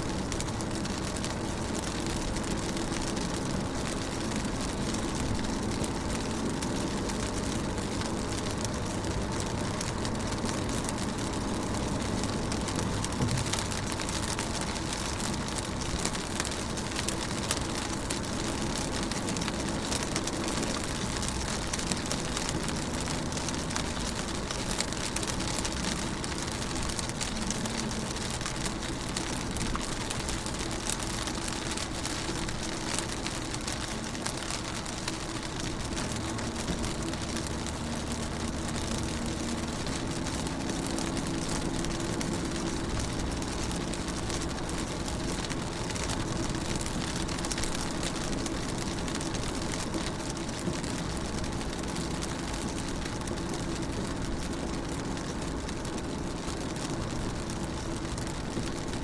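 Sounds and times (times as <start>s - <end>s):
rain pattering on car: 0.0s - 59.0s.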